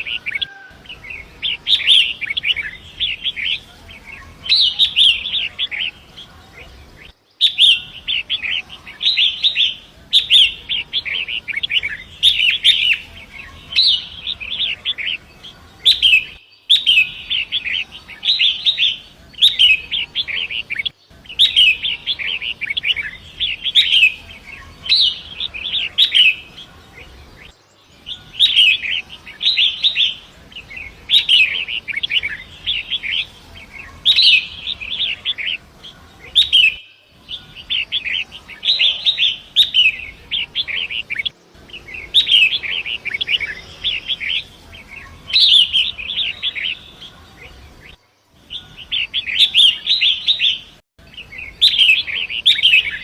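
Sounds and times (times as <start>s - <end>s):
bird singing chattering phrases: 0.0s - 53.0s.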